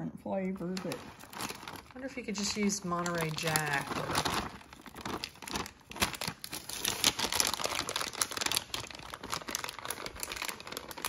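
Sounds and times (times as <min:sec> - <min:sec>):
plastic bag crinkling: 0:00.5 - 0:11.0.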